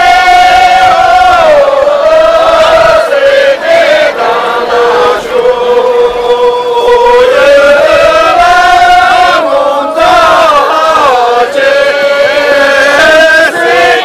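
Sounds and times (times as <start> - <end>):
group singing in unison: 0.0 - 14.0.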